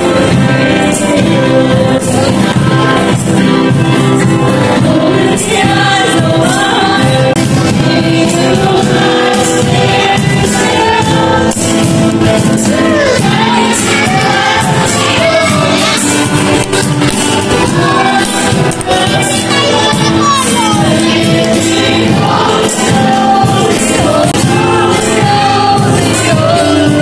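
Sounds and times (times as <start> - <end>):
upbeat song with singing: 0.0 - 27.0.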